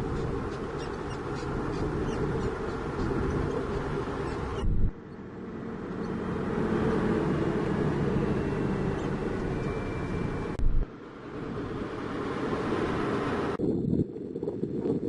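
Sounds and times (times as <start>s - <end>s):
heavy diesel engine running: 0.0s - 13.6s.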